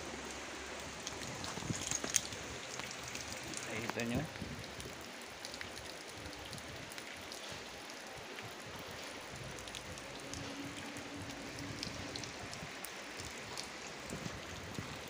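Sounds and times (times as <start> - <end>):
water dripping: 0.0 - 15.0
water trickling from a pipe: 0.0 - 15.0.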